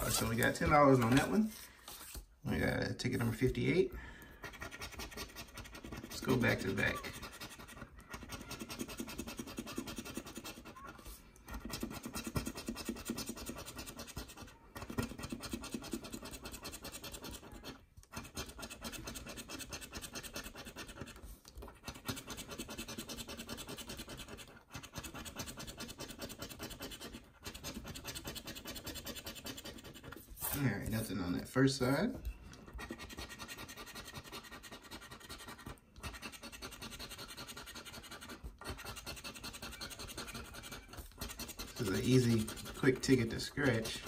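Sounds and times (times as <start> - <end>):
scratching lottery ticket: 4.4 - 31.1, 32.7 - 44.0.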